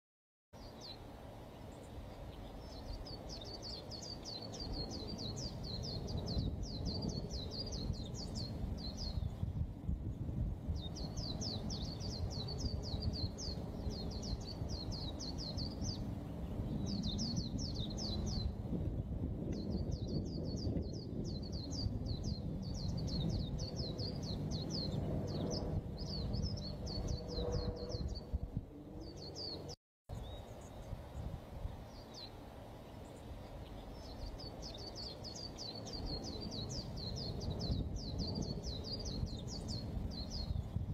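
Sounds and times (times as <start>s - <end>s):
bird twittering song: 0.6s - 28.4s, 29.0s - 40.9s.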